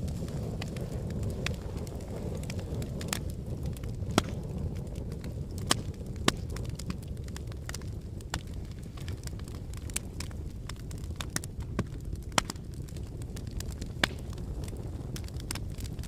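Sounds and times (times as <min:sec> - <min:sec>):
volcano rumbling: 0:00.0 - 0:16.0
sharp cracks: 0:00.6 - 0:04.6, 0:05.5 - 0:16.0.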